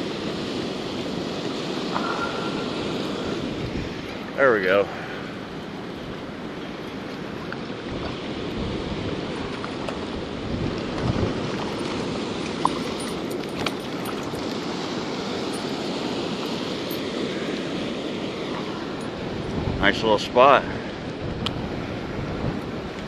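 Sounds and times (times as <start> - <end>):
water rushing: 0.0 - 23.0
wind buffeting microphone: 0.0 - 23.0.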